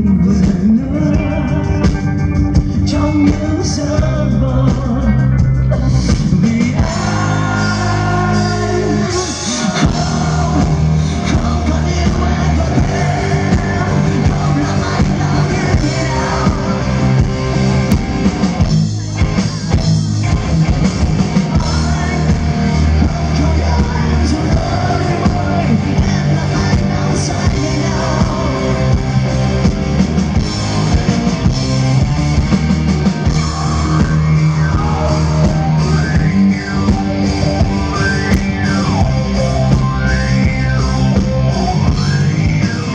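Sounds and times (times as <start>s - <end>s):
person singing: 0.0s - 20.0s, 21.2s - 29.8s, 33.0s - 42.9s
bass guitar: 0.0s - 42.9s
distorted electric guitars: 0.0s - 42.9s
drums: 0.0s - 42.9s.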